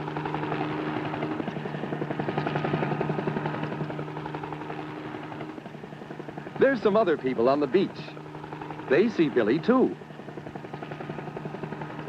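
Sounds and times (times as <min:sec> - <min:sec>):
helicopter rotor drone: 0:00.0 - 0:12.0.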